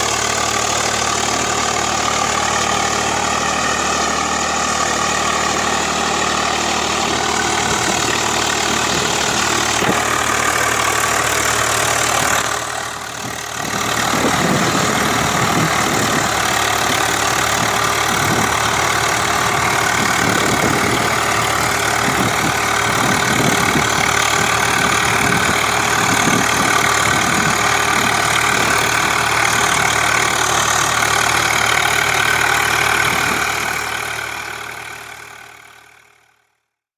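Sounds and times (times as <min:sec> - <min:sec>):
tractor diesel engine running: 0:00.0 - 0:36.4.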